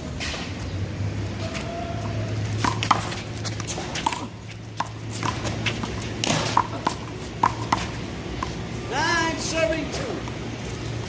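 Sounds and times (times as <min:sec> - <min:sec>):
steady low hum: 0:02.0 - 0:11.0.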